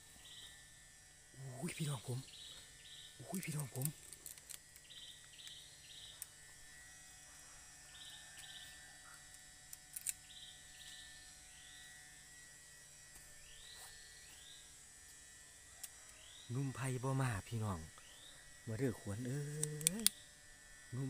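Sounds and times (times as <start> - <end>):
bird buzzy chirps: 0.0 - 4.0, 4.6 - 9.3, 10.1 - 12.6, 13.3 - 21.0.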